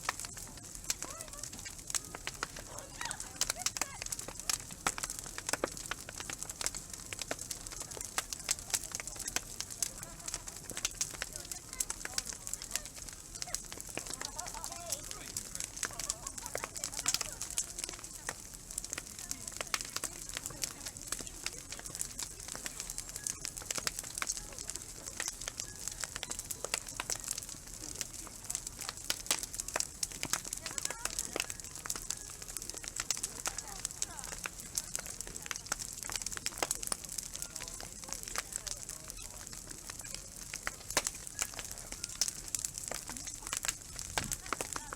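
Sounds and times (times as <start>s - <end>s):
wood bonfire crackling: 0.0s - 44.9s.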